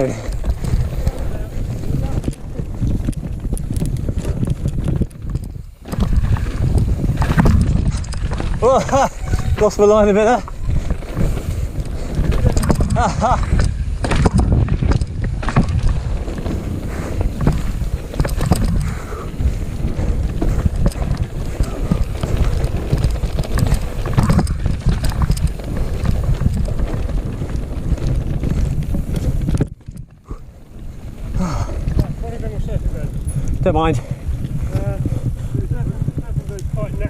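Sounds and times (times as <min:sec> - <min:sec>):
bike rattling and knocking: 0:00.0 - 0:37.0
tyres on dirt: 0:00.0 - 0:37.0
wind rushing over microphone: 0:00.0 - 0:37.0.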